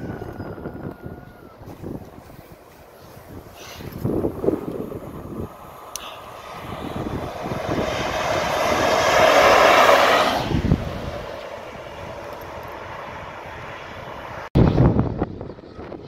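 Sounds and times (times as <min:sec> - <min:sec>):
diesel locomotive engine rumbling: 0:00.0 - 0:16.0
electric train passing at speed: 0:00.0 - 0:16.0.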